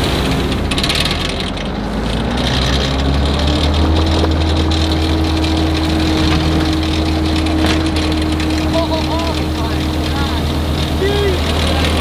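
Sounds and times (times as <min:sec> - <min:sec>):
water jetting from hose: 0:00.0 - 0:12.0
water pump engine running: 0:00.0 - 0:12.0.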